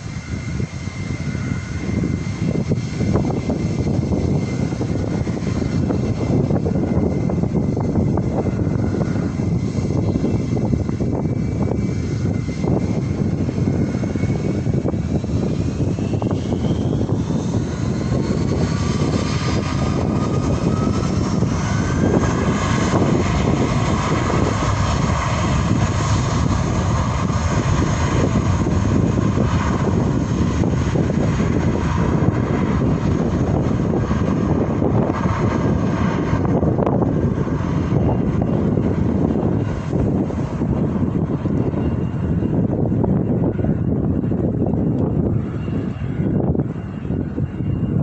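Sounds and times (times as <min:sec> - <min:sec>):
airliner engines whining: 0:00.0 - 0:48.0.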